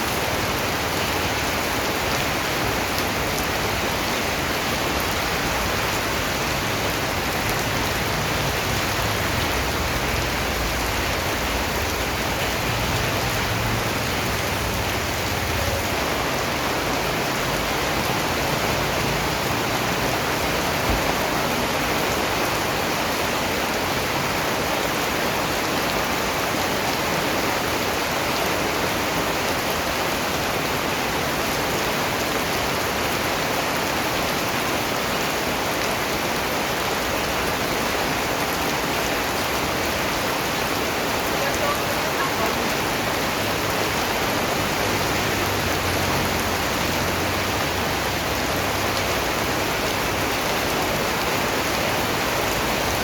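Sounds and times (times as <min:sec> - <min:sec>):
rain falling on a surface: 0:00.0 - 0:53.0.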